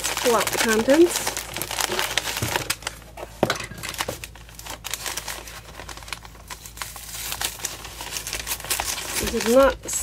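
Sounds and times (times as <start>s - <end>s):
plastic sleeve crinkling: 0.0s - 10.0s
tissue paper crinkling: 0.0s - 10.0s.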